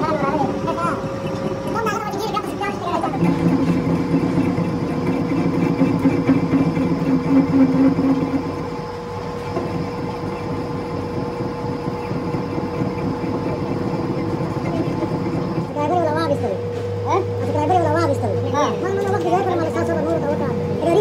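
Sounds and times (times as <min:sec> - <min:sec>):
lathe running with hum and whine: 0:00.0 - 0:21.0.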